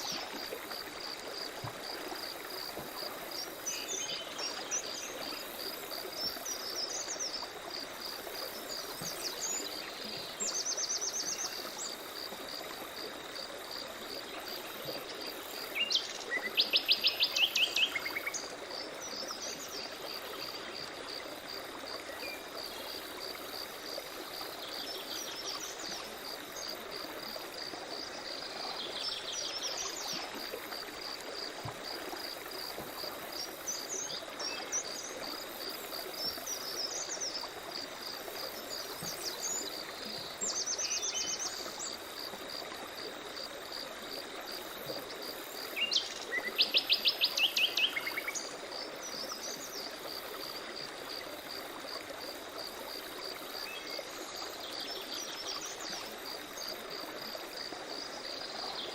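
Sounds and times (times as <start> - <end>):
forest stream running: 0.0 - 58.9.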